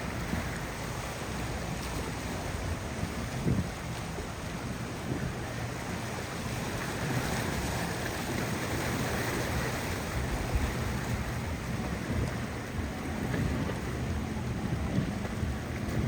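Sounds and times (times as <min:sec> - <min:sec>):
powerboat engines running: 0:00.0 - 0:16.0
water rushing: 0:00.0 - 0:16.0
wind noise on microphone: 0:00.0 - 0:16.0.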